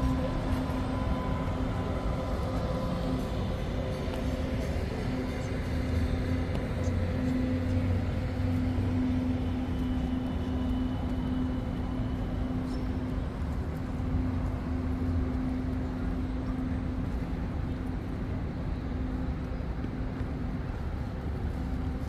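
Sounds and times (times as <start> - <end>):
city noise: 0.0 - 22.0
vehicle engine hum: 0.0 - 22.0.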